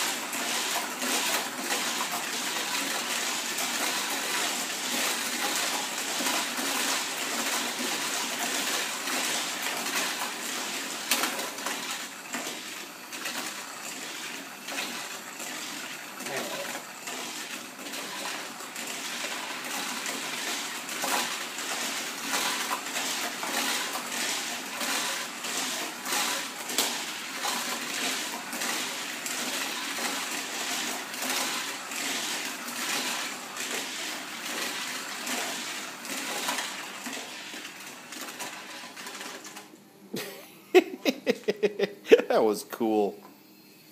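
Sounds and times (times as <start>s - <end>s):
toy car motors whirring: 0.0s - 39.7s.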